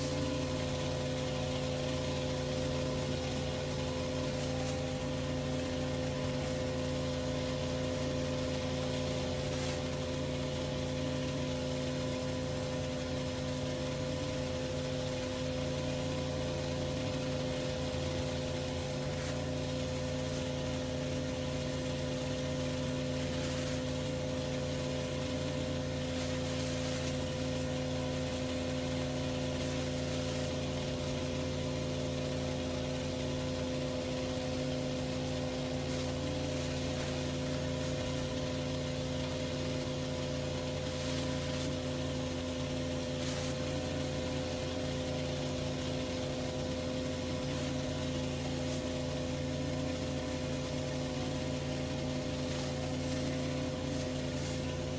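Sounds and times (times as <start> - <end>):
pressure washer engine running: 0.0 - 54.9
pressure washer spray hiss: 0.0 - 54.9.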